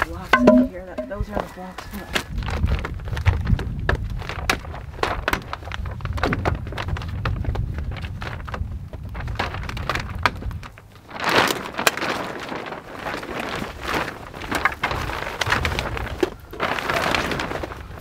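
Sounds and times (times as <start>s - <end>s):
crackling rustle: 0.0s - 18.0s
wind rumbling on microphone: 0.0s - 18.0s.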